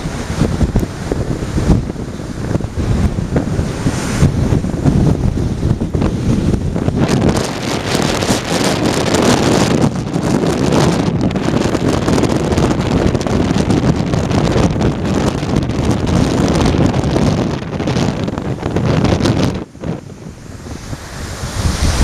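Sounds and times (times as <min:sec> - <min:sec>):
strong wind buffeting microphone: 0:00.0 - 0:22.0
waves breaking against quay: 0:00.0 - 0:22.0.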